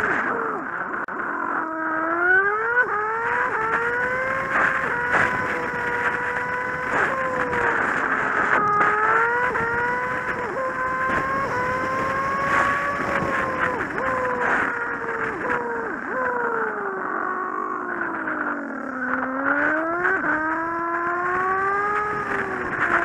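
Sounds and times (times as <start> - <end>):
motorcycle engine whining: 0.0 - 23.0.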